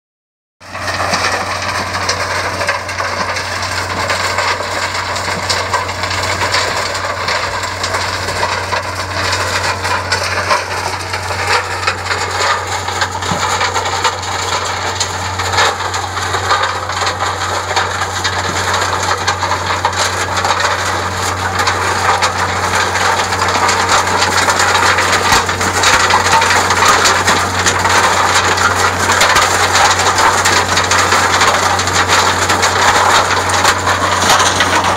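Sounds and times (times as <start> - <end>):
low engine hum: 0.6 - 34.9
stones rattling in rotating drum: 0.7 - 34.9.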